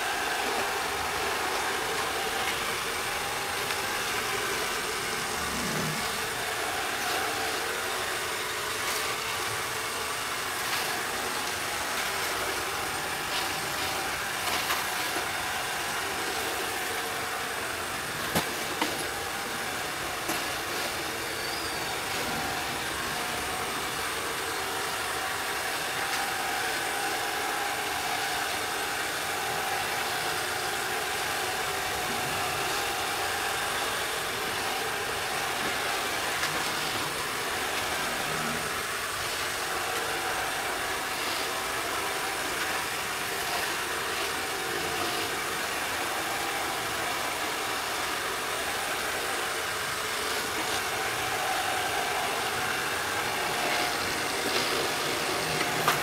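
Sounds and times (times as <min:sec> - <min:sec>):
robot vacuum humming: 0:00.0 - 0:56.0.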